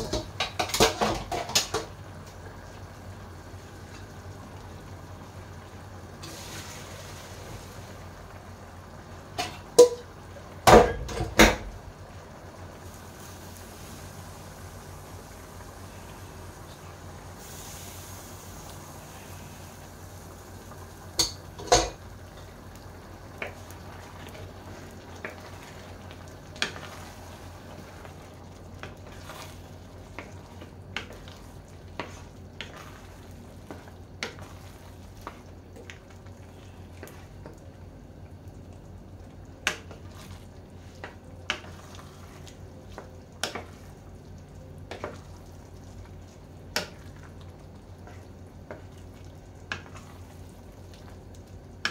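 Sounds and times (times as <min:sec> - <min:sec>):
sauce sizzling: 0:01.8 - 0:10.8, 0:11.7 - 0:51.9.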